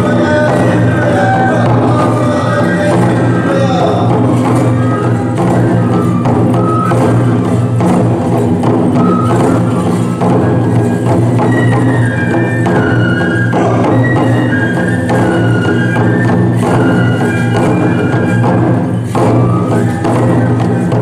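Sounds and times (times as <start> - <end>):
bamboo flutes melody: 0.0 - 21.0
taiko drums beating: 0.0 - 21.0.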